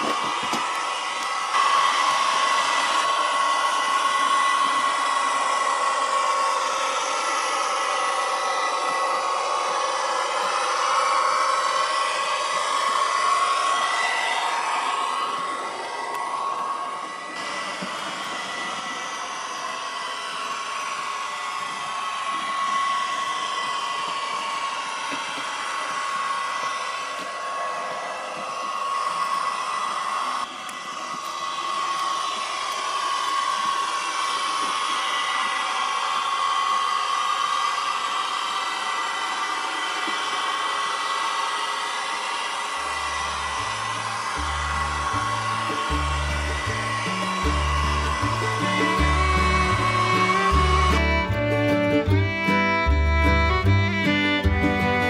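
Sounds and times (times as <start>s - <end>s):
model train motors whirring: 0.0s - 55.0s
thin steady whine: 0.0s - 55.0s.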